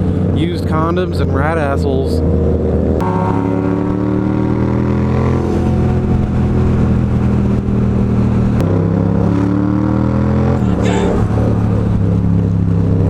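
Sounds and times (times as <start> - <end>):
motorcycle engine accelerating: 2.1 - 13.0.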